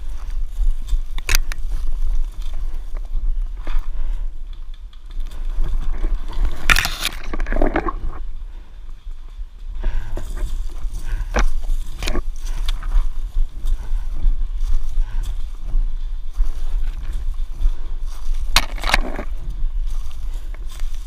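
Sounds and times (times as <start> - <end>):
microphone handling rumble: 0.0 - 9.1, 9.7 - 21.0
dry leaves rustling and crackling: 0.0 - 21.0.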